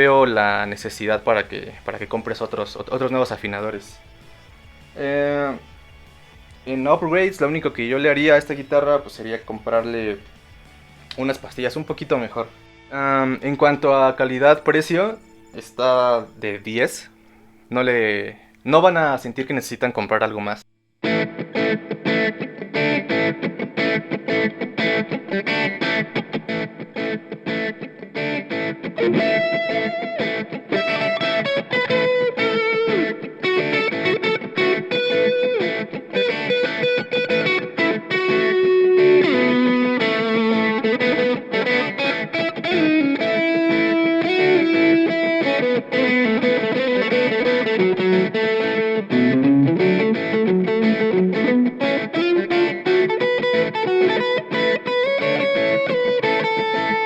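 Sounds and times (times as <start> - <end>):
electric guitar chords: 0.0 - 17.7, 21.0 - 57.0
electric guitar lead with bends: 0.0 - 17.8, 21.0 - 57.0.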